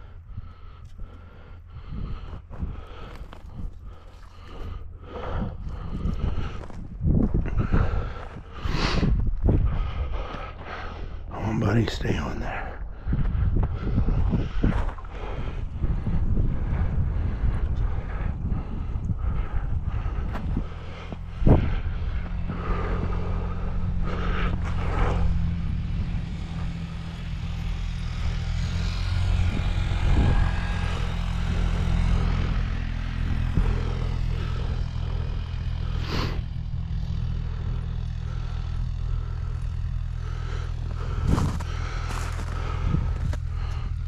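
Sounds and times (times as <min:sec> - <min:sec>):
engine humming steadily: 0:00.0 - 0:44.0.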